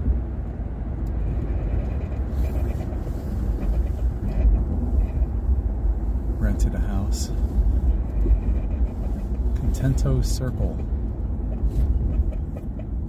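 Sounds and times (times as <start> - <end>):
car road noise inside cabin: 0.0 - 13.0.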